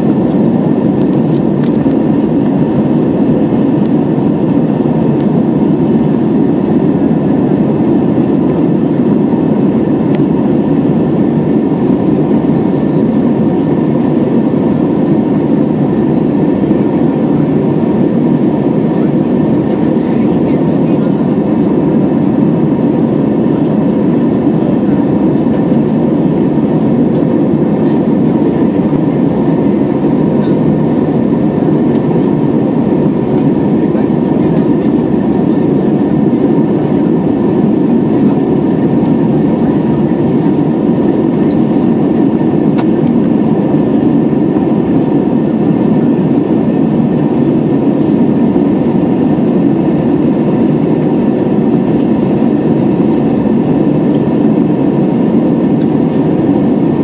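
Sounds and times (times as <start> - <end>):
airliner cabin roar: 0.0 - 57.0
faint steady whine: 0.0 - 57.0.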